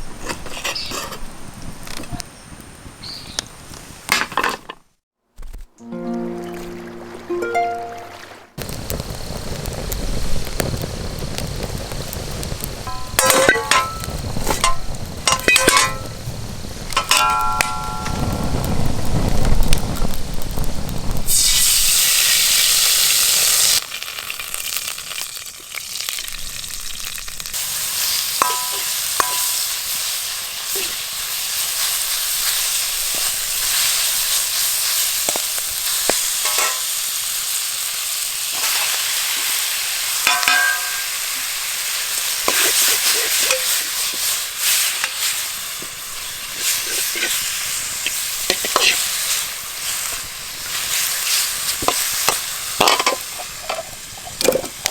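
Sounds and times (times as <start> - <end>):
food sizzling in a pan: 8.6 - 54.9.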